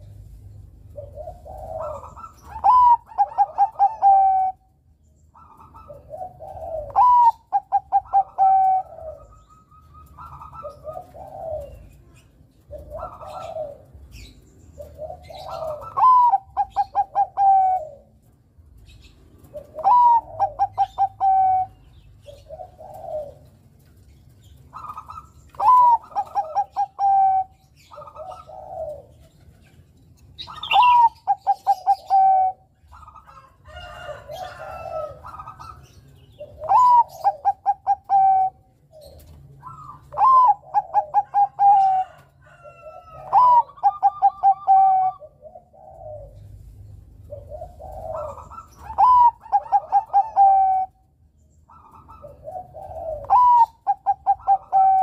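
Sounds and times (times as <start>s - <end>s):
dove cooing song: 0.0s - 55.0s.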